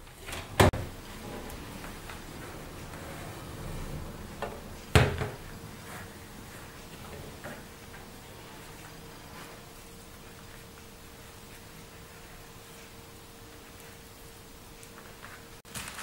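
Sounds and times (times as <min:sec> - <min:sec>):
dish towel rustling: 0:00.0 - 0:16.0.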